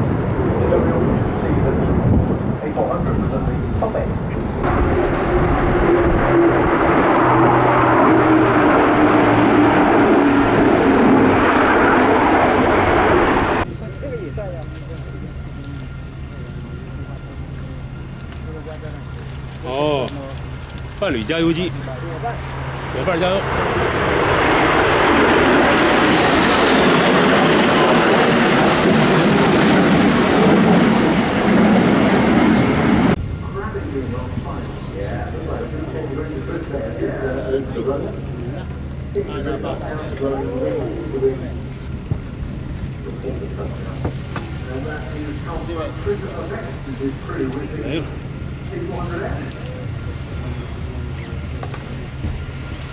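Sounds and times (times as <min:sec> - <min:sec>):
high engine whine: 0:00.0 - 0:52.9
military aircraft roaring past: 0:00.0 - 0:52.9.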